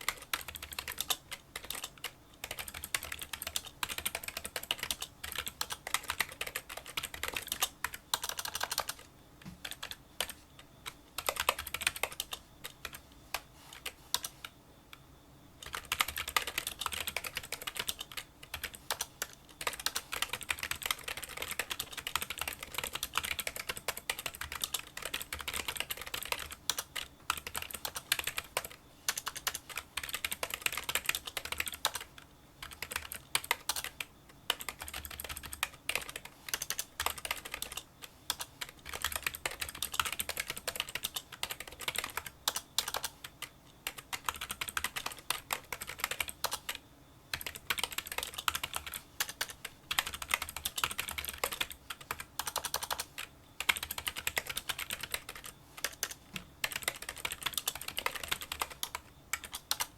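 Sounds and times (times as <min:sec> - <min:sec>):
keyboard typing clicks: 0:00.0 - 0:14.3, 0:15.6 - 0:59.9.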